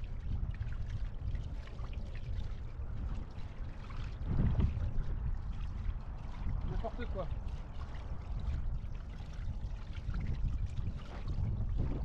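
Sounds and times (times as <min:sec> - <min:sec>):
water rushing and trickling: 0:00.0 - 0:12.0
wind buffeting microphone: 0:00.0 - 0:12.0.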